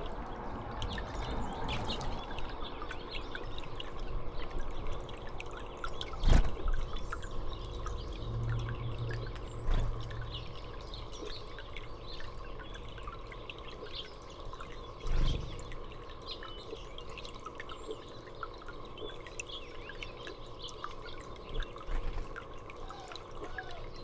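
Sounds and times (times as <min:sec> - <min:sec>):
small songbirds chirping: 0:00.0 - 0:24.0.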